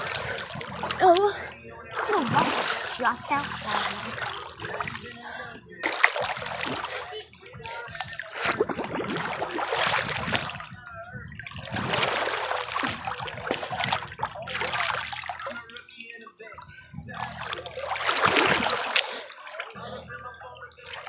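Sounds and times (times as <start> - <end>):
water trickling: 0.0 - 5.2, 5.8 - 19.8
pool water splashing: 0.0 - 21.0.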